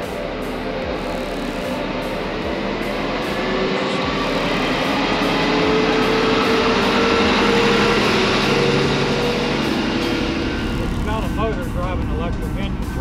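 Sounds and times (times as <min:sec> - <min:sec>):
background music: 0:00.0 - 0:13.0
road noise: 0:00.0 - 0:13.0
vehicle engine running: 0:00.0 - 0:13.0.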